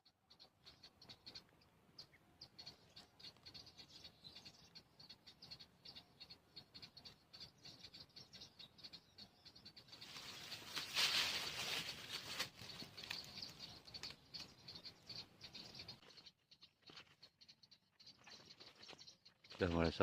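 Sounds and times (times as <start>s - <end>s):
rapid high-pitched bird chirping: 0.0s - 20.0s.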